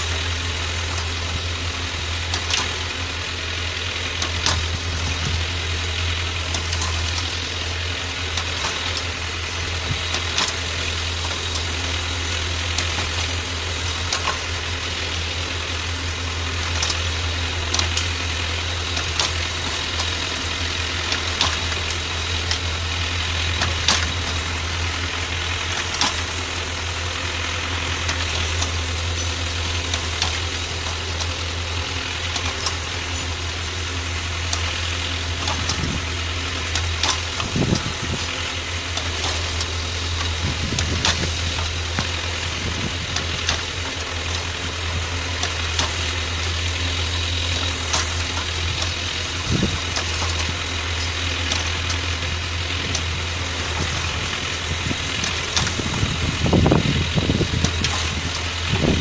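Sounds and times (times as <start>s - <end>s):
rotary tiller churning soil: 0.0s - 59.0s
tractor engine running: 0.0s - 59.0s.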